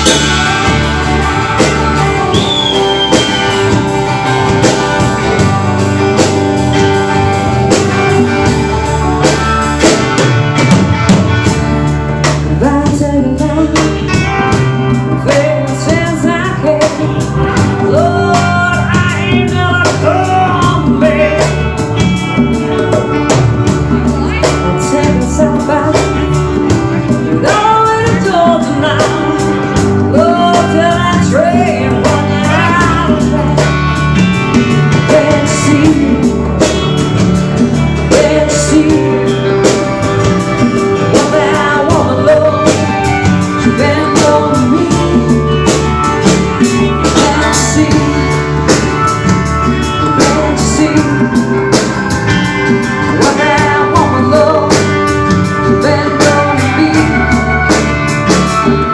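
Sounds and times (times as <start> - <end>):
lead guitar bending notes: 0.0 - 58.9
rock band playing: 0.0 - 58.9.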